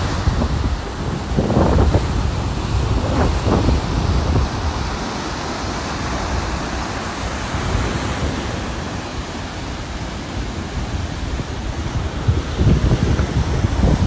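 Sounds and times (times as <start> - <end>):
waves breaking: 0.0 - 14.0
wind rumbling on microphone: 0.0 - 14.0.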